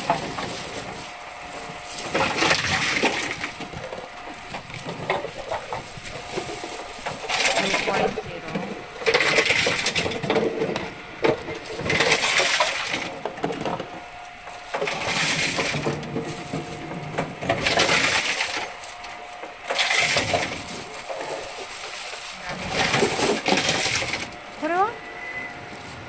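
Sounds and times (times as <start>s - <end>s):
machine crushing plastic bottles: 0.0s - 24.8s.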